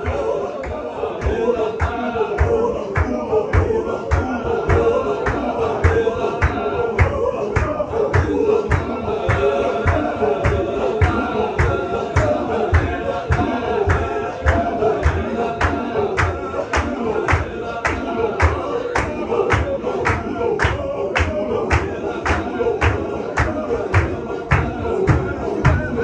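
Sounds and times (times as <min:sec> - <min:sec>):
men chanting together: 0:00.0 - 0:26.0.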